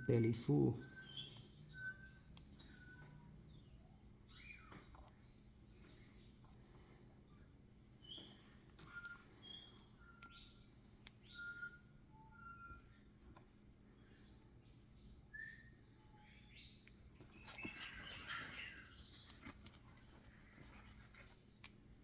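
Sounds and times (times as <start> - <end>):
lovebirds chirping and whistling: 0.8 - 19.6.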